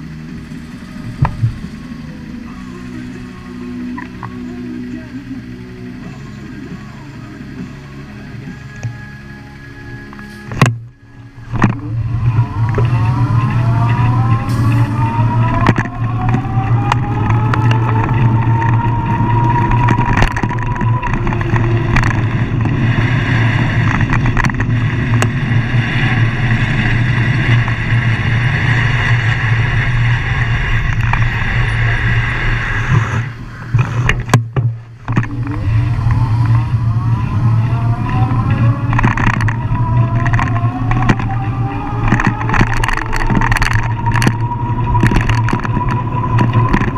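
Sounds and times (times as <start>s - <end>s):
engine drone: 0.0s - 46.9s
rising whine: 0.0s - 46.9s
tyre noise on wet road: 0.0s - 46.9s.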